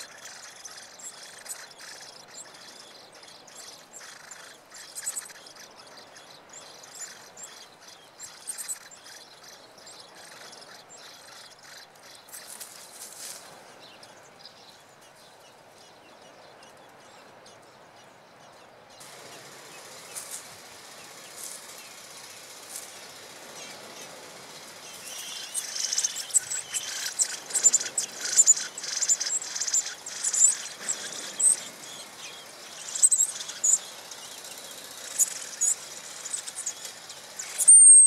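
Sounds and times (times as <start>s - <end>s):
nestlings begging chirps: 0.0s - 13.4s, 18.4s - 38.0s.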